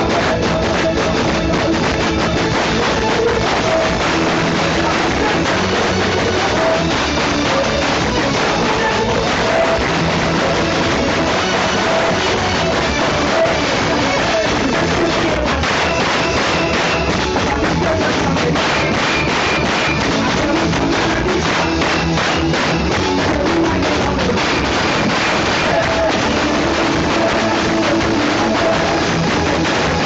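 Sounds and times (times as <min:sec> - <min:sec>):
live band music: 0:00.0 - 0:30.0.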